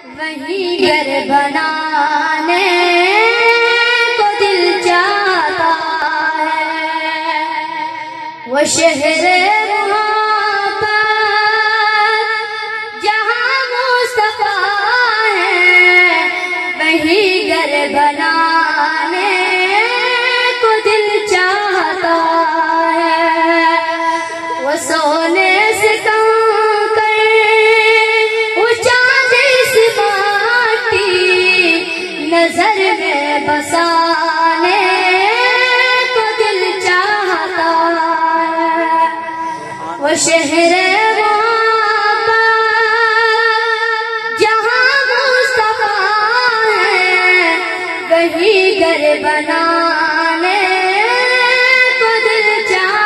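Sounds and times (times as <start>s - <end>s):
boy singing unaccompanied: 0.0s - 53.0s.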